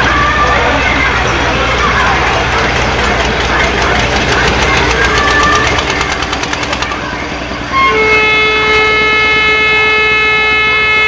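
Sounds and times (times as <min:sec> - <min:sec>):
fairground ride clicking: 0:00.0 - 0:11.0.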